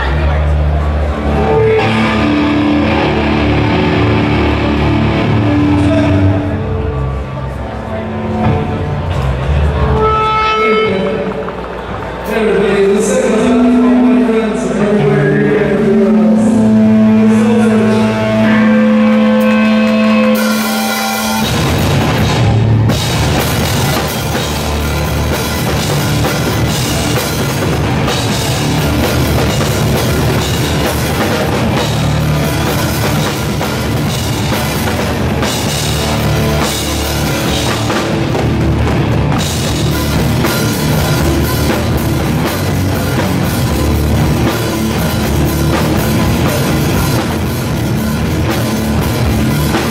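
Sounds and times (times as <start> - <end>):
hardcore band playing live: 0.0 - 49.9.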